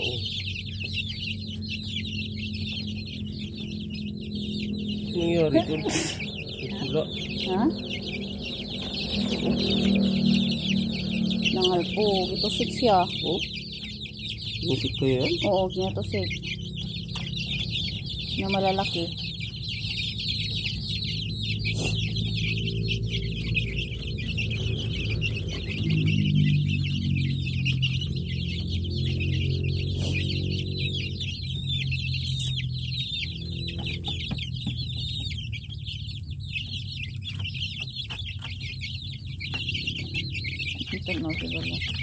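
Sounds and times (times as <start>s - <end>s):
low hum: 0.0s - 37.2s
chicks peeping and chirping: 0.0s - 42.0s.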